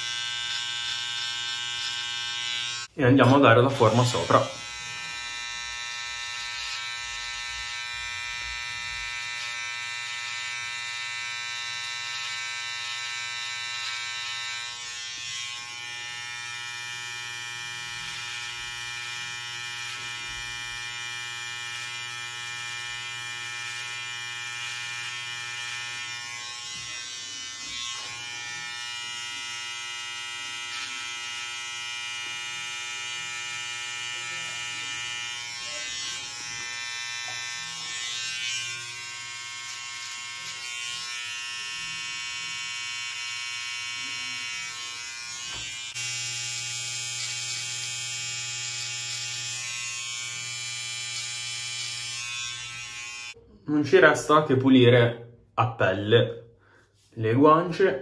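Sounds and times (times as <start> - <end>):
electric hair trimmer buzzing: 0.0 - 53.4.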